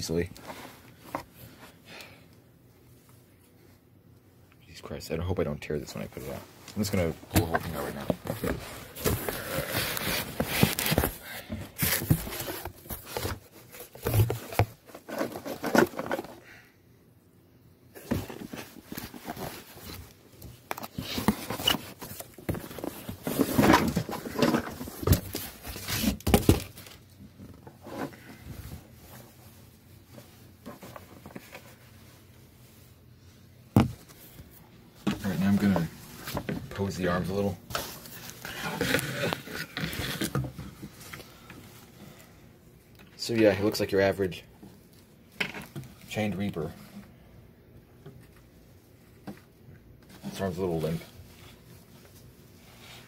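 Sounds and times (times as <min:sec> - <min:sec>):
rustling and crinkling of fabric: 0:05.6 - 0:16.4, 0:17.9 - 0:47.2, 0:48.1 - 0:53.0.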